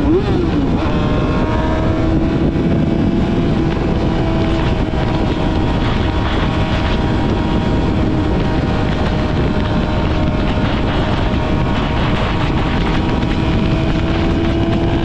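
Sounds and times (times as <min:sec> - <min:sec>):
motorcycle engine at high revs: 0:00.0 - 0:15.0
wind rush on microphone: 0:00.0 - 0:15.0.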